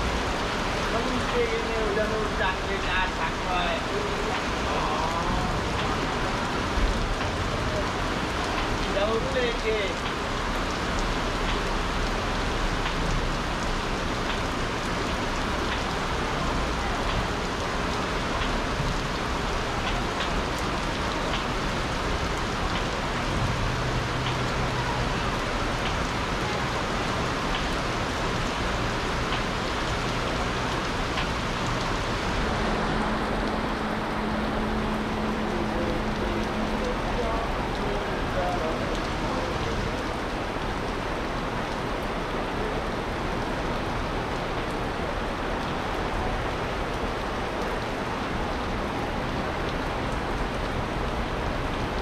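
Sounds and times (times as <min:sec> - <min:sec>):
heavy rain on awning and concrete: 0:00.0 - 0:52.0
rain drop ticks: 0:00.0 - 0:52.0.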